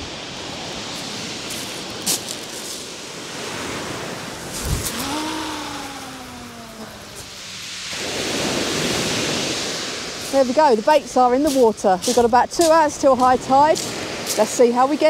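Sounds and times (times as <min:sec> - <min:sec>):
surf washing on beach: 0:00.0 - 0:15.0.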